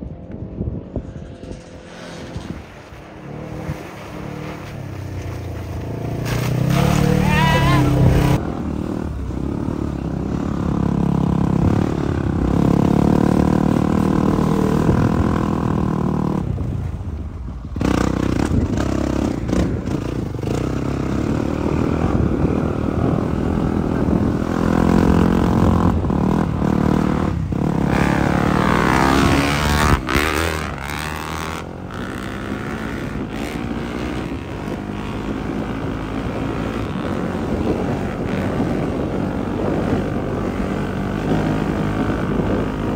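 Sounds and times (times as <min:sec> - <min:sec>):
off-road vehicle engine revving: 0:03.2 - 0:16.5, 0:17.8 - 0:42.9.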